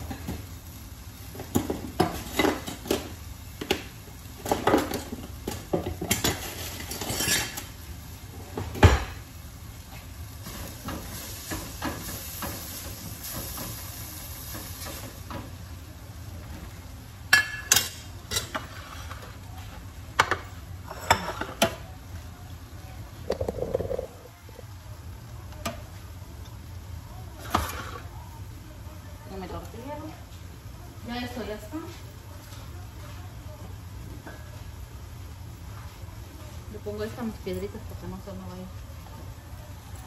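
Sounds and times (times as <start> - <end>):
light sizzle: 0.0 - 40.0.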